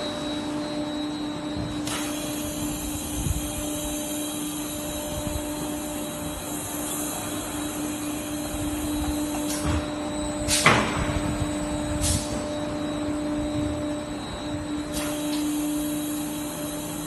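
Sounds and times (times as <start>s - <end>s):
laminating machine humming: 0.0s - 17.0s.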